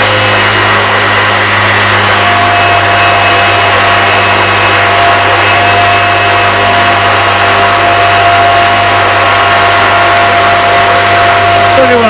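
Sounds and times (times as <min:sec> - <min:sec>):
aircraft engine and propeller running: 0:00.0 - 0:12.0.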